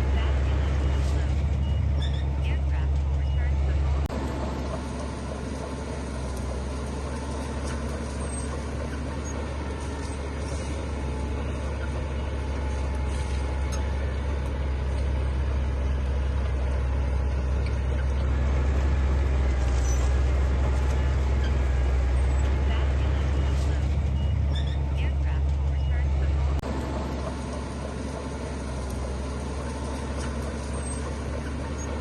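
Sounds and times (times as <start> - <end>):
heavy diesel engine rumbling: 0.0 - 32.0.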